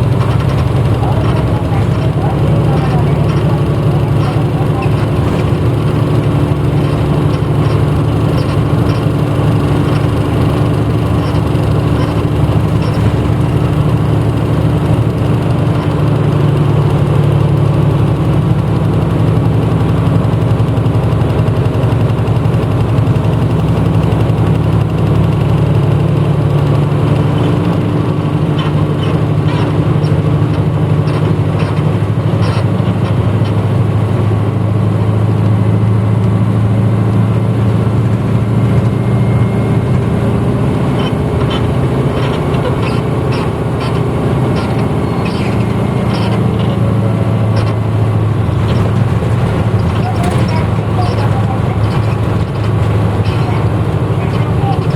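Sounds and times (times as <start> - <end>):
bus diesel engine drone: 0.0 - 54.9
faint rattles: 0.0 - 54.9
road noise: 0.0 - 54.9.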